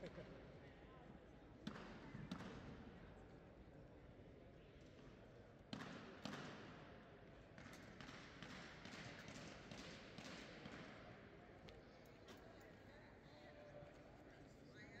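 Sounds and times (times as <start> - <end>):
faint indistinct voices: 0.0 - 15.0.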